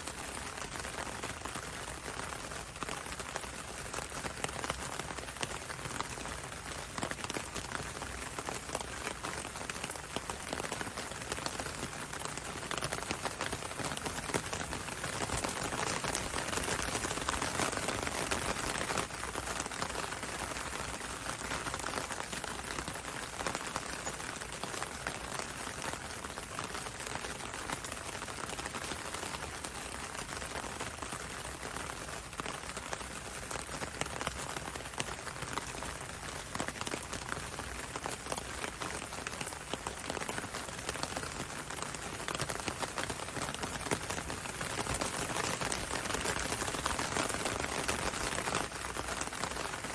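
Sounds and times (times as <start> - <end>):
rain hiss: 0.0 - 49.9.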